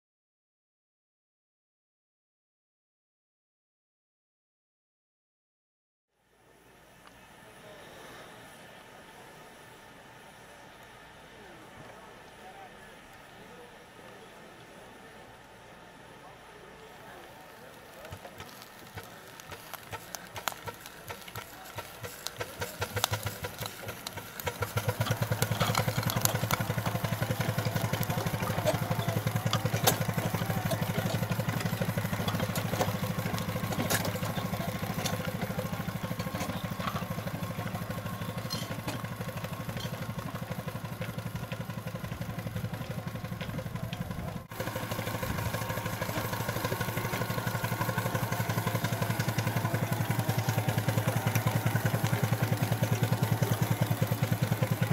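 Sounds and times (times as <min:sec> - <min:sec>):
steam engine chuffing: 0:07.4 - 0:54.9.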